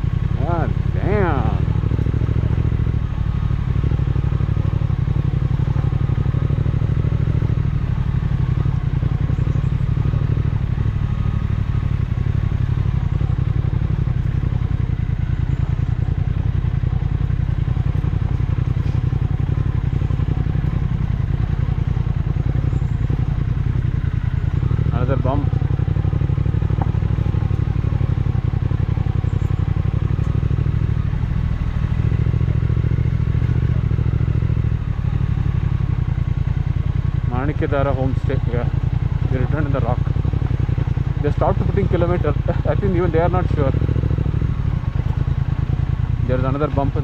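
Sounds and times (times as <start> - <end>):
motorcycle engine running steadily: 0.0 - 47.0.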